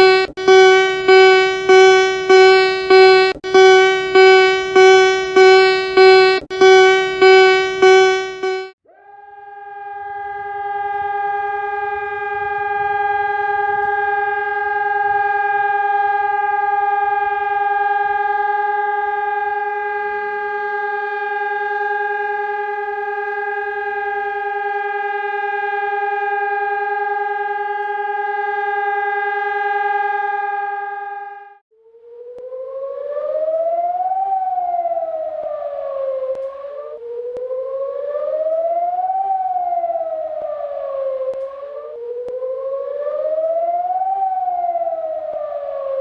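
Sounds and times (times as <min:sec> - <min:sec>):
siren steady single-pitch tone: 0:00.0 - 0:46.0.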